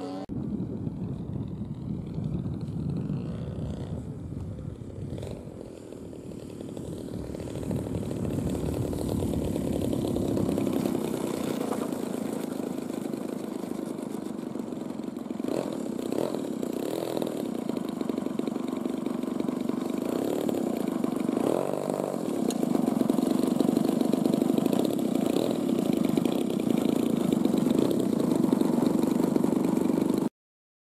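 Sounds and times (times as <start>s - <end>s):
model airplane engine running: 0.0s - 30.3s.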